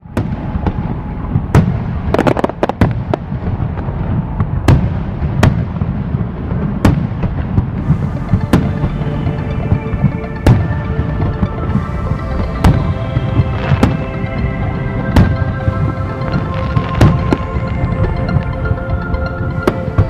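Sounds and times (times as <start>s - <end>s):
fireworks bangs: 0.0s - 18.5s
fireworks cracks: 0.0s - 18.6s.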